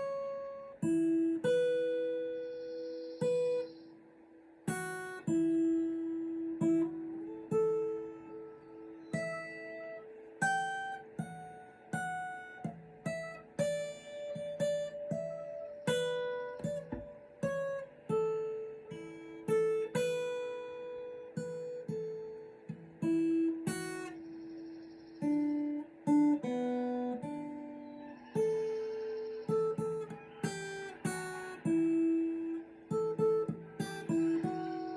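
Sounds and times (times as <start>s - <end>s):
acoustic guitar picking: 0.0s - 34.9s.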